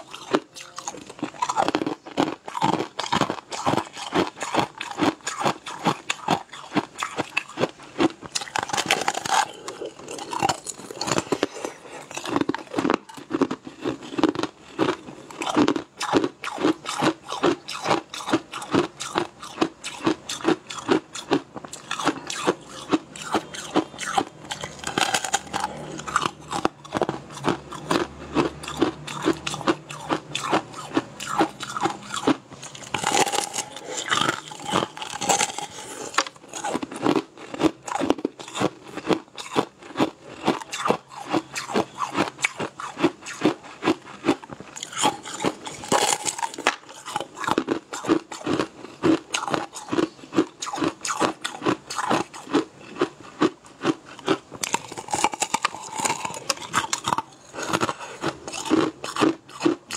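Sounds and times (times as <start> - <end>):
crunchy chewing of sweet: 0.0 - 59.9.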